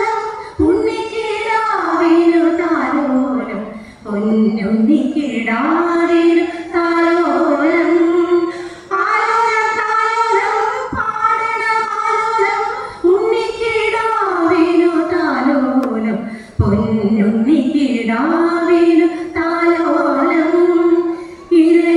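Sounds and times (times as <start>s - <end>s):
women singing together: 0.0s - 21.9s.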